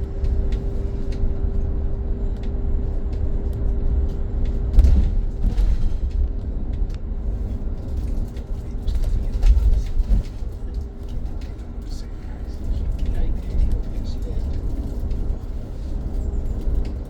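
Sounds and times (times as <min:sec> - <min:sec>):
road rumble inside bus: 0:00.0 - 0:17.0.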